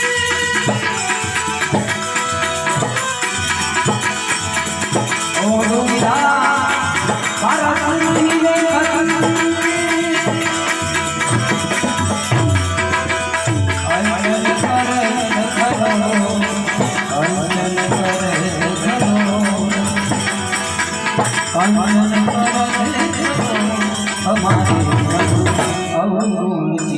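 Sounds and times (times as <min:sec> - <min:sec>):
harmonium melody: 0:00.0 - 0:26.9
rhythmic percussion: 0:00.0 - 0:26.9.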